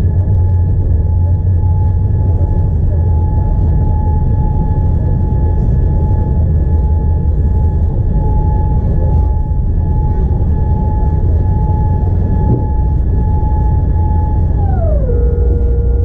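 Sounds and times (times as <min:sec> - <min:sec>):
constant high whine: 0:00.0 - 0:16.0
engine and airflow rumble: 0:00.0 - 0:16.0.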